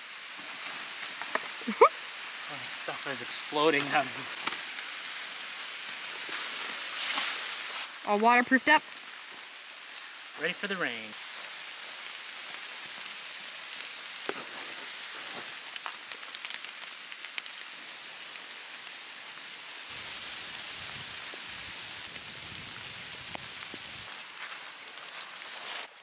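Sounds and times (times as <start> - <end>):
rain hissing on leaves: 0.0 - 26.0.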